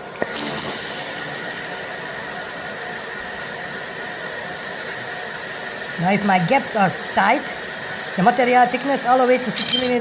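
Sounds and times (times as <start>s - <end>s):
laser welder hissing and whining: 0.0s - 10.0s.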